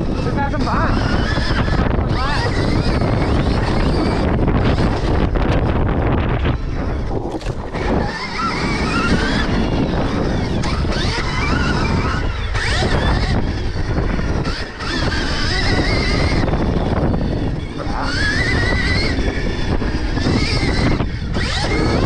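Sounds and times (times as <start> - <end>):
electric motorbike motor whining: 0.0 - 22.0
wind rumble on microphone: 0.0 - 22.0.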